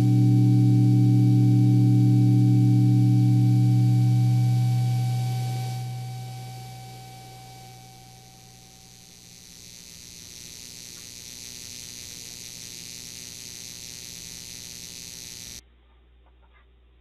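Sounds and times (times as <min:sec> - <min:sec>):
low hum: 0:00.0 - 0:15.6
synthesizer high noise hiss: 0:00.0 - 0:15.6.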